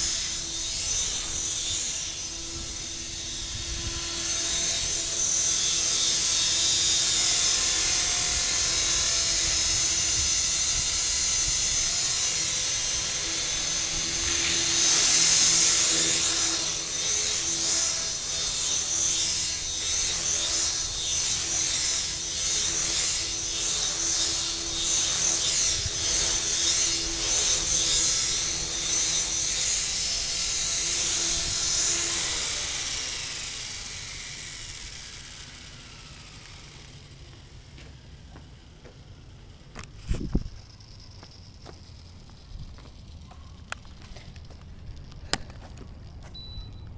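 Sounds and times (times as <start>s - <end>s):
rc helicopter rotor whine: 0.0s - 46.9s.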